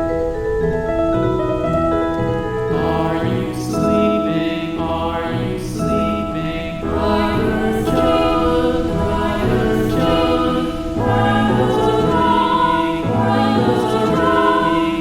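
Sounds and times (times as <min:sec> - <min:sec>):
slow ambient music with choir: 0:00.0 - 0:15.0.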